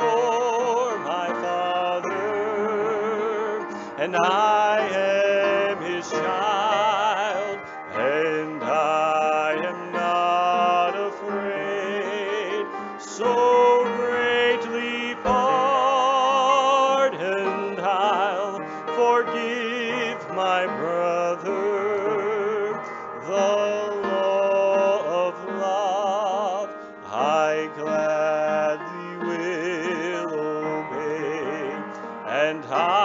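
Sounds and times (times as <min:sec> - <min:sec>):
hymn melody with vibrato: 0:00.0 - 0:33.0
sustained accompaniment: 0:00.0 - 0:33.0.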